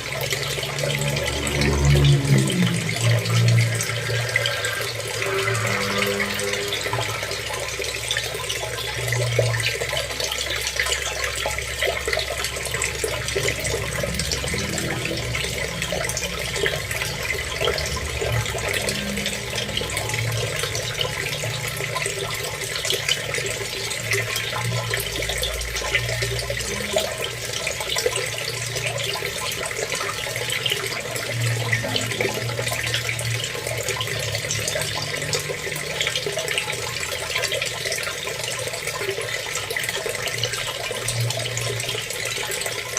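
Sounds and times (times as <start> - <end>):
water running: 0.0 - 42.9.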